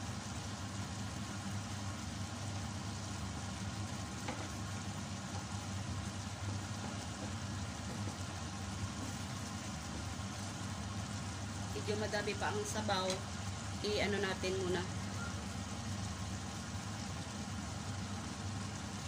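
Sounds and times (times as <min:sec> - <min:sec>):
sauce simmering in a pot: 0:00.0 - 0:19.0.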